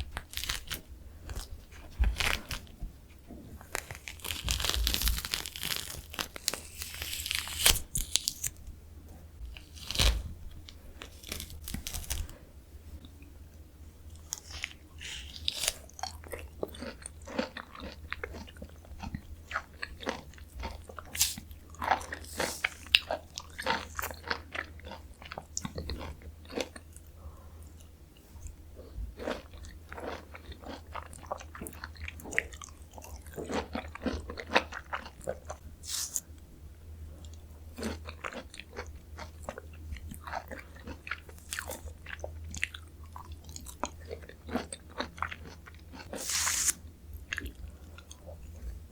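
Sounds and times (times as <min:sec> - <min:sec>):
steady low hum: 0:00.0 - 0:48.9
person chewing juicy fruit: 0:03.6 - 0:08.6, 0:09.4 - 0:12.4, 0:14.0 - 0:36.3, 0:37.1 - 0:48.9.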